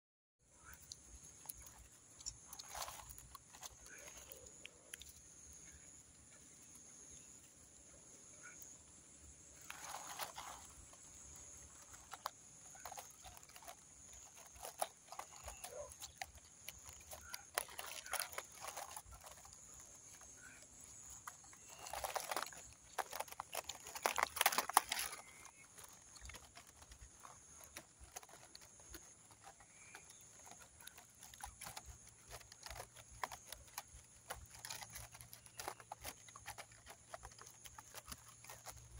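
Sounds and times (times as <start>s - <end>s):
rustling: 0.6s - 38.9s.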